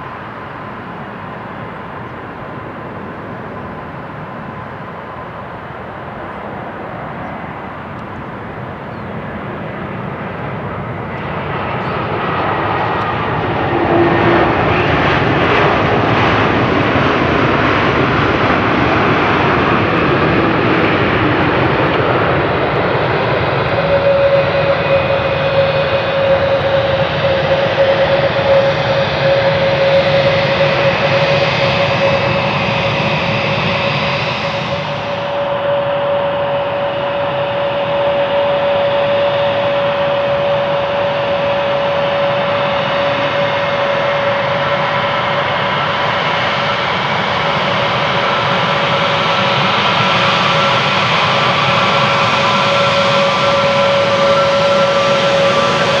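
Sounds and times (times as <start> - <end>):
jet engines on approach: 0.0 - 56.0
steady whine: 0.0 - 56.0.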